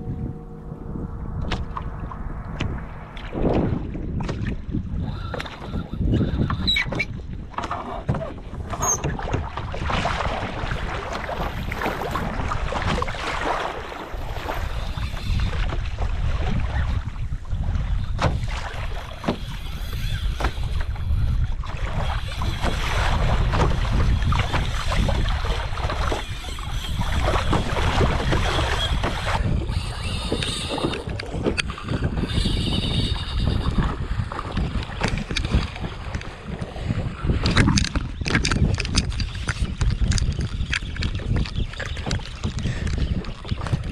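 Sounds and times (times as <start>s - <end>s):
water splashing against hull: 0.0s - 43.9s
wind buffeting microphone: 0.0s - 43.9s.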